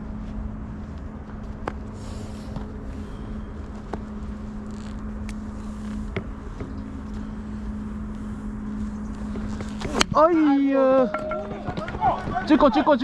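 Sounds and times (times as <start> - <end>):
low rumble with hum: 0.0 - 12.8.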